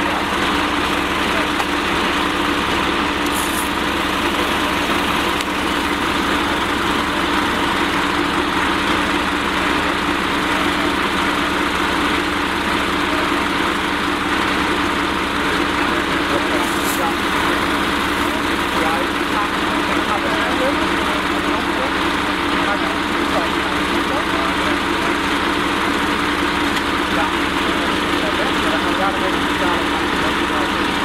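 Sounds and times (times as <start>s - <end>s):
fire engine running pump: 0.0s - 31.0s.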